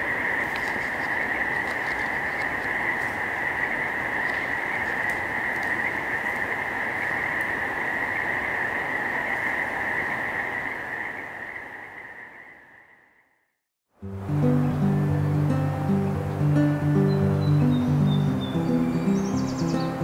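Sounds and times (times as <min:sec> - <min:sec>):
frogs trilling: 0:00.0 - 0:13.4, 0:16.2 - 0:20.0.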